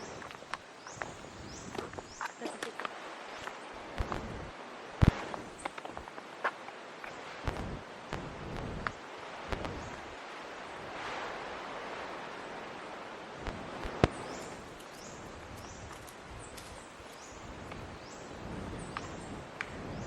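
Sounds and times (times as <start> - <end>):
forest hiss: 0.0 - 20.0.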